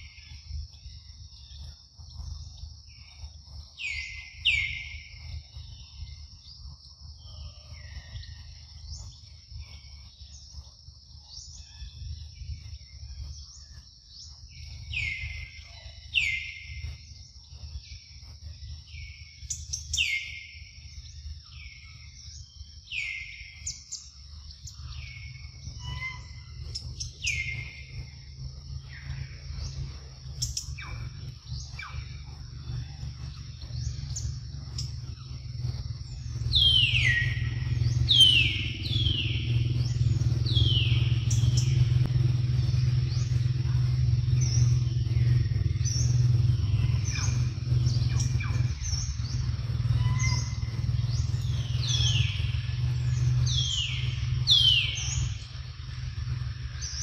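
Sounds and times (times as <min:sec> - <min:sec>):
birds whistling downward notes: 0:00.0 - 0:57.0
steady low rumble: 0:00.0 - 0:57.0.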